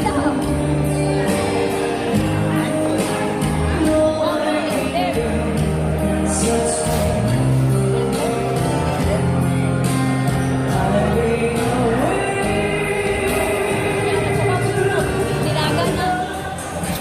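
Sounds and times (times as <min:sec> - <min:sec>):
music with steady beat: 0:00.0 - 0:17.0
person singing: 0:00.0 - 0:17.0.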